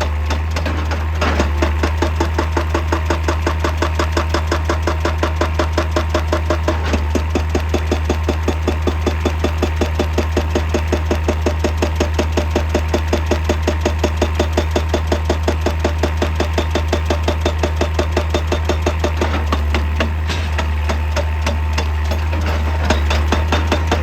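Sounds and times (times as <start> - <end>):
hydraulic rock breaker hammering: 0.0 - 24.0.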